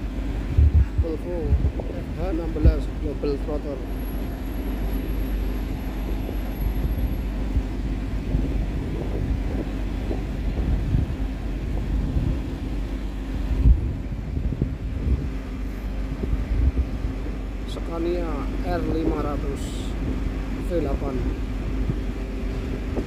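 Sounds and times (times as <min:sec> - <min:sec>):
truck diesel engine rumbling: 0:00.0 - 0:23.0.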